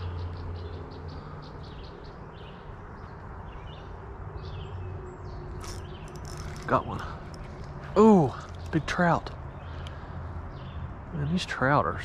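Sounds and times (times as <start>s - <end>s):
steady low background rush: 0.0s - 12.0s.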